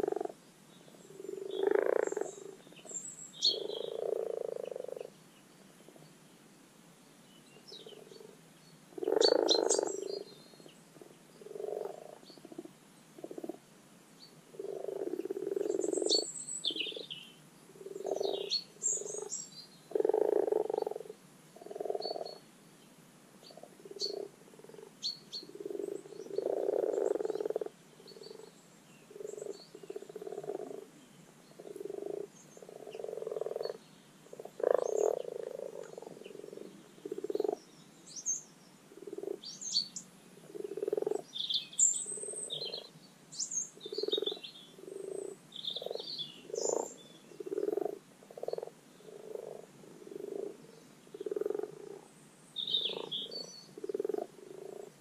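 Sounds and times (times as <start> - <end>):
frogs croaking in chorus: 0.0 - 5.2, 7.6 - 13.6, 14.4 - 22.5, 23.4 - 55.0.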